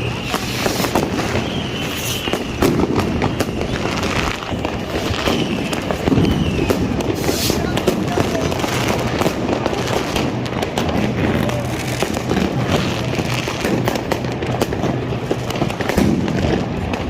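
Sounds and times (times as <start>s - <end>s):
fireworks and firecrackers bangs: 0.0s - 17.0s.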